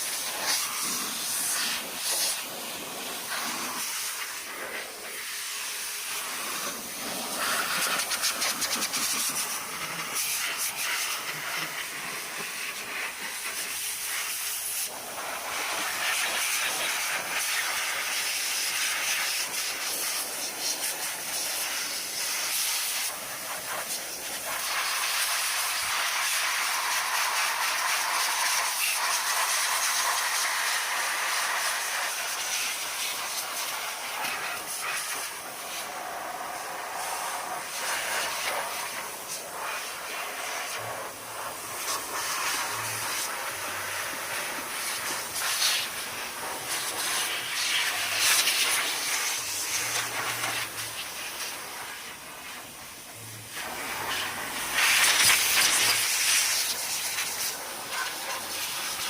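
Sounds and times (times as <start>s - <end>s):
air jet hissing: 0.0s - 32.5s, 33.2s - 59.0s.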